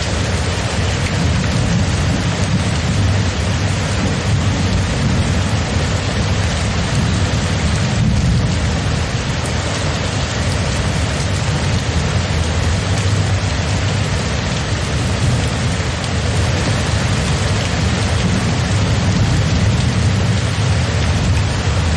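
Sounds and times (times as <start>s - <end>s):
steady rain falling: 0.0s - 21.9s
low rumble of thunder: 1.0s - 9.4s, 10.7s - 21.9s.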